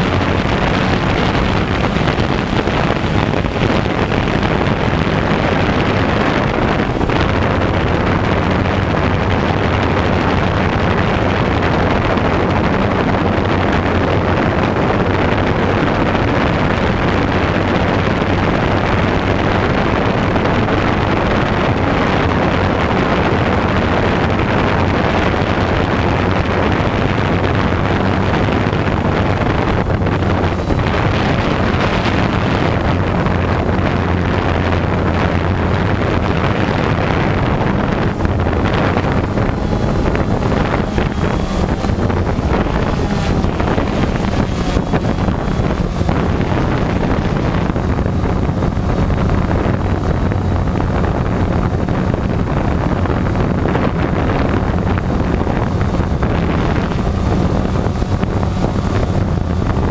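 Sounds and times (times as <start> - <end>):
drone motors humming: 0.0 - 59.9
wind on microphone: 0.0 - 59.9.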